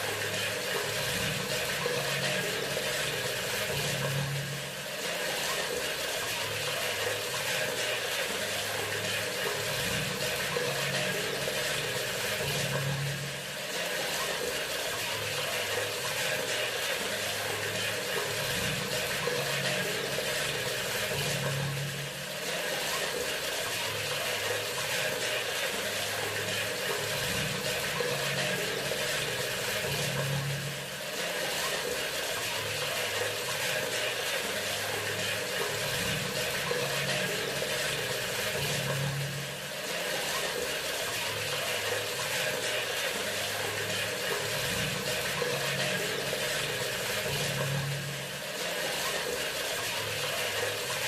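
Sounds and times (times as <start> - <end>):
water running from faucet: 0.0 - 51.0.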